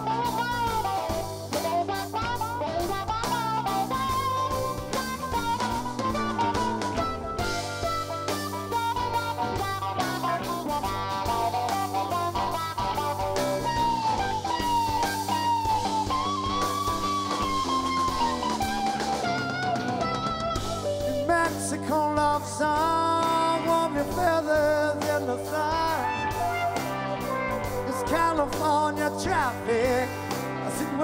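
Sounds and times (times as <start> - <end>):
bass guitar: 0.0 - 31.0
drums: 0.0 - 31.0
electric guitar solo: 0.0 - 31.0.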